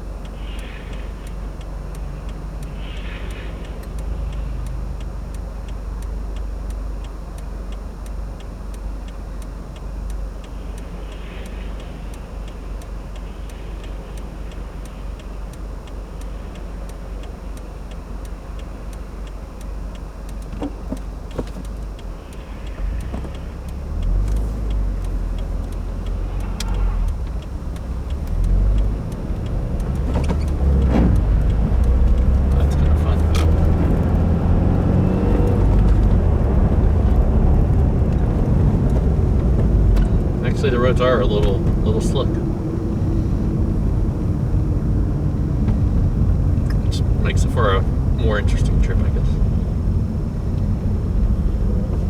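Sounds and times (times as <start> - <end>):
car engine and tyres rumbling: 0.0 - 52.0
faint ticking: 0.0 - 52.0.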